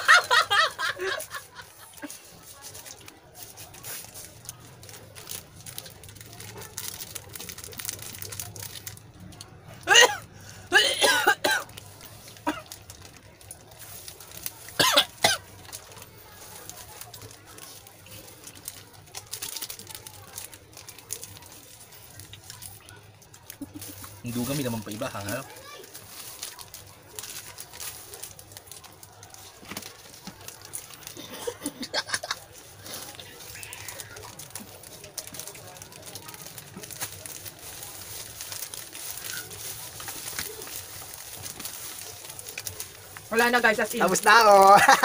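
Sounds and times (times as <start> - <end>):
plastic sachets crinkling: 0.0 - 45.0.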